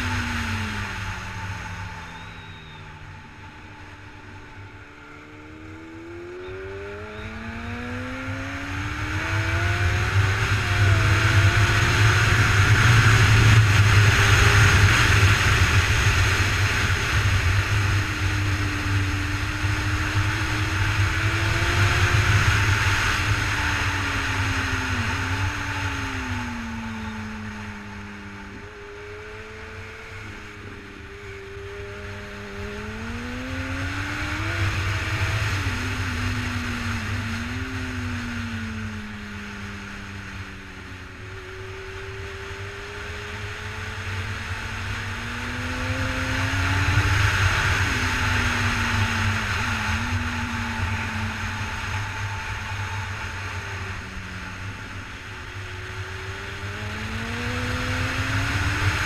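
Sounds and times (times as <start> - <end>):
heavy wind rush: 0.0 - 59.0
motorcycle engine at speed: 0.0 - 59.0.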